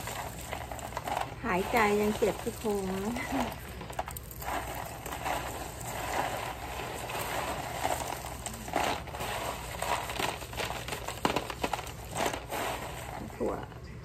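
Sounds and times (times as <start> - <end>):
peanut husks rattling in a tray: 0.0 - 14.0.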